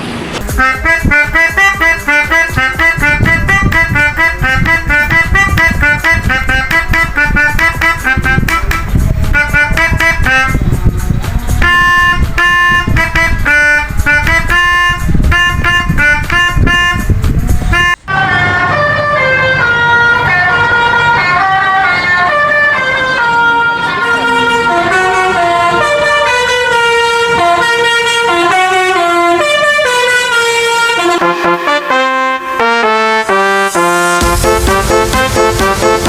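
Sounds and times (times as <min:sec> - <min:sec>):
buses rumbling past: 0:00.0 - 0:36.0
musical bus horns: 0:00.0 - 0:36.0.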